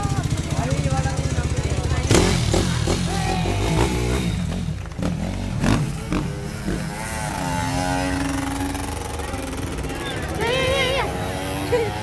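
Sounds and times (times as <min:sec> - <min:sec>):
motorcycle engines droning: 0:00.0 - 0:12.0.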